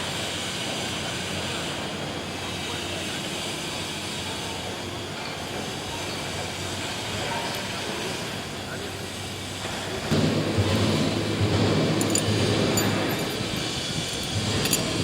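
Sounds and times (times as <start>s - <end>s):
drilling rig mechanical drone: 0.0s - 15.0s.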